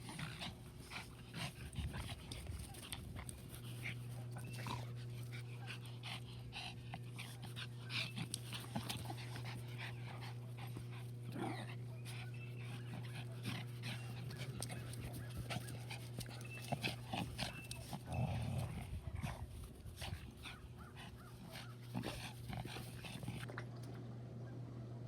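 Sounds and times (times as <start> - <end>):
puppy panting: 0.0 - 23.5
steady low hum: 0.0 - 25.0.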